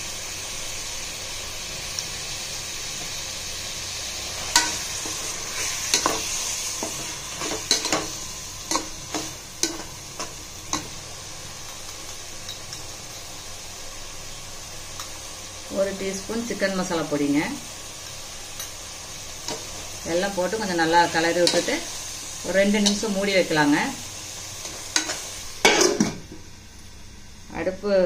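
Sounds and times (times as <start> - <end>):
mushrooms sizzling in a pan: 0.0 - 28.0.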